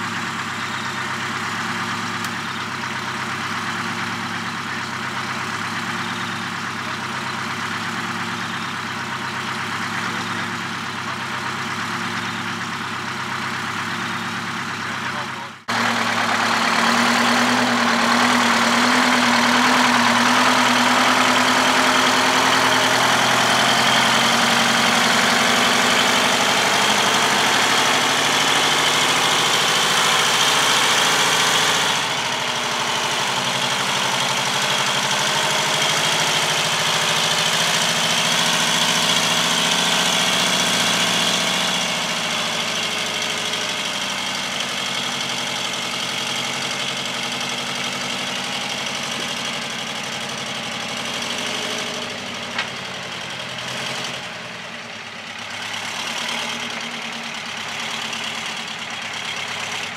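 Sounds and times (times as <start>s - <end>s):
diesel truck engine at low revs: 0.0s - 59.9s.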